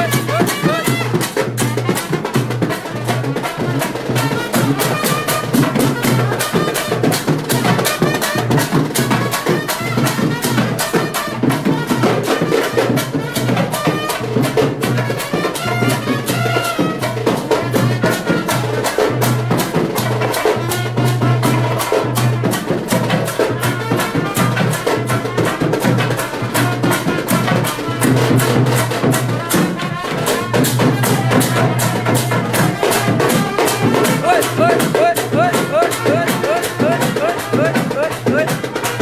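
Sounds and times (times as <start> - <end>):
brass band playing: 0.0 - 39.0
fast driving drums: 0.0 - 39.0.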